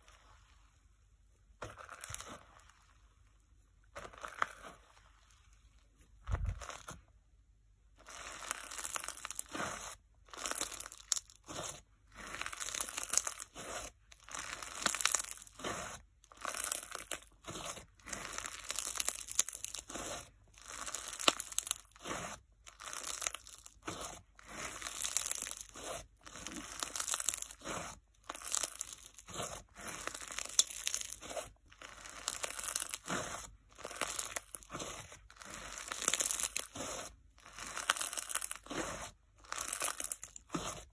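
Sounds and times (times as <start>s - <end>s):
slime squeezed with crunchy crackle: 1.6s - 2.9s, 3.9s - 4.9s, 6.2s - 7.0s, 8.0s - 40.9s.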